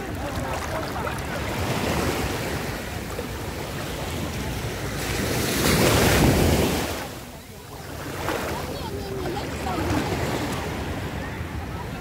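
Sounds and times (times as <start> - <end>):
small waves sloshing: 0.0 - 12.0.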